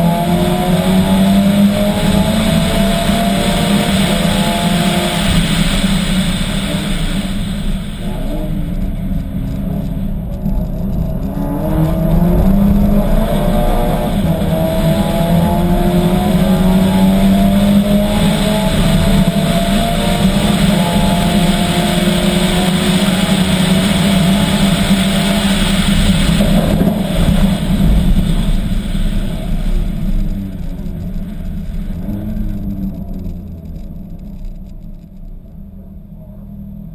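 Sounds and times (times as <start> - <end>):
car engine accelerating hard: 0.0 - 36.9.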